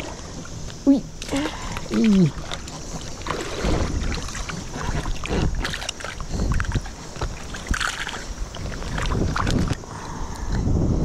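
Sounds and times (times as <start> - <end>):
river water rushing and splashing: 0.0 - 10.3
small splashes and clicks: 0.0 - 10.6
wind buffeting microphone: 0.0 - 11.0.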